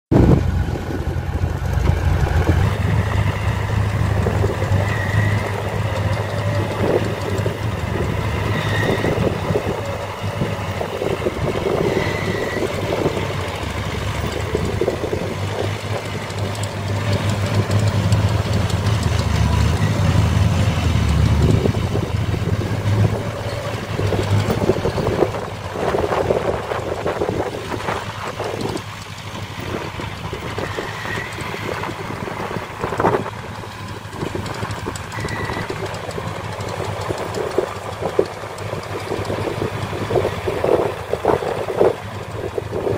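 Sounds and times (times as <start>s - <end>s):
heavy diesel engines rumbling: 0.0s - 42.9s.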